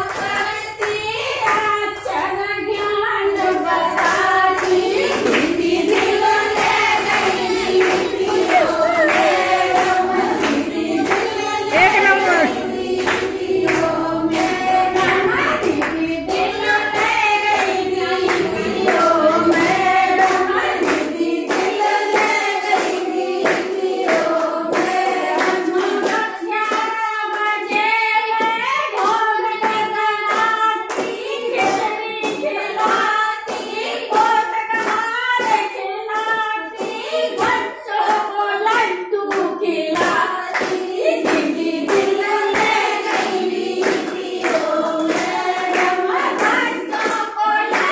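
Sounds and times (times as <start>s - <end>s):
rhythmic hand-clapping: 0.0s - 47.9s
women singing in unison: 0.0s - 47.9s.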